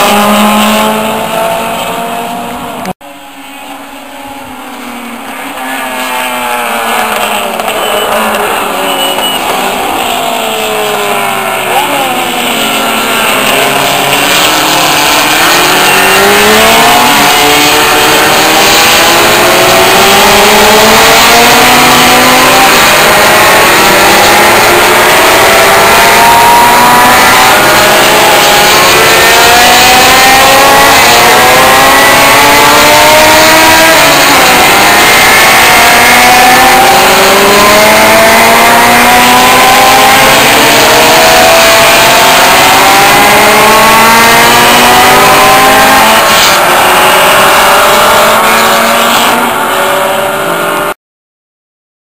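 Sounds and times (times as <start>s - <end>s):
racing car engines accelerating: 0.0s - 51.0s.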